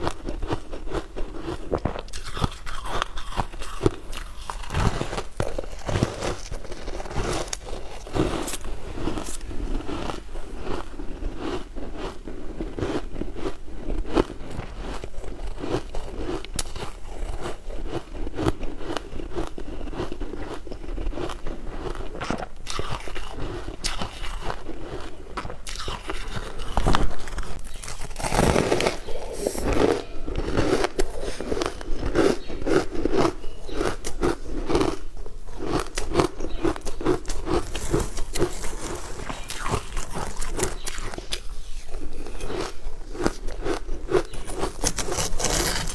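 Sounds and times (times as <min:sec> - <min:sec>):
ice crunching being chewed: 0:00.0 - 0:45.9.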